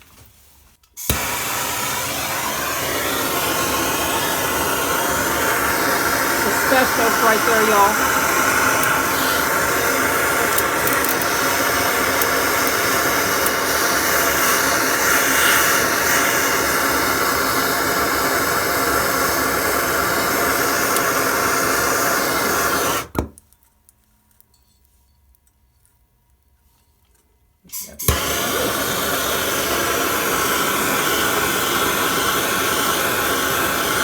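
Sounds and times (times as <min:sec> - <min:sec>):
gas torch flame hissing: 0:01.0 - 0:23.2, 0:27.7 - 0:34.0.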